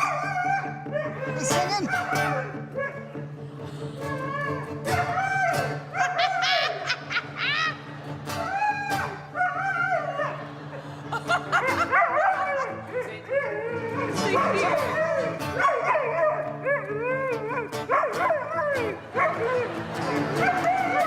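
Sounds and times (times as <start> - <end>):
dog howling: 0.0 - 3.1, 4.2 - 7.7, 8.4 - 10.5, 11.5 - 19.8, 20.4 - 21.0
backing music: 0.0 - 6.0, 6.7 - 21.0.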